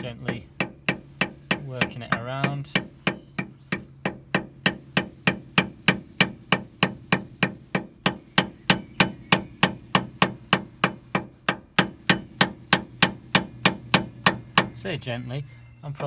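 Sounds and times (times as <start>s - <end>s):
hammer tapping metal bearing: 0.0s - 14.8s.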